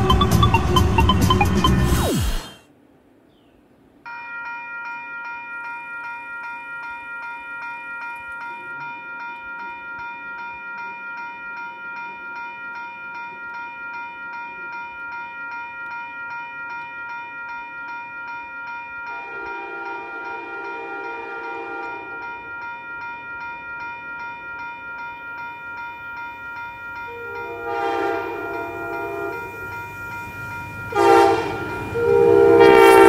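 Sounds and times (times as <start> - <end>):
crossing bell ringing: 0.0 - 1.8, 4.1 - 33.0
lower-pitched ringing: 4.1 - 33.0.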